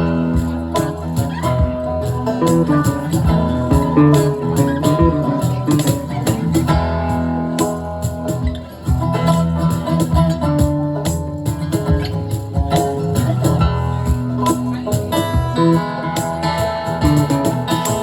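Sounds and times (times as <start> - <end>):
live band playing: 0.0 - 18.0.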